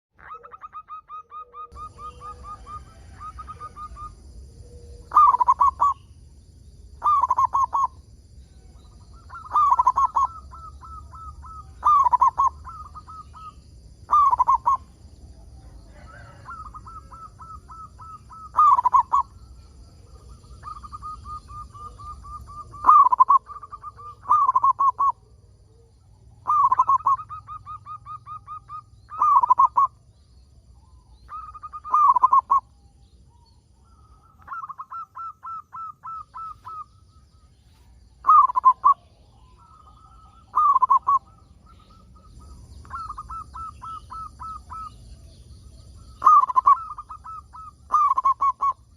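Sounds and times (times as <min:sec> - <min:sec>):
dove cooing: 0:00.2 - 0:06.1, 0:07.0 - 0:30.2, 0:30.8 - 0:48.9.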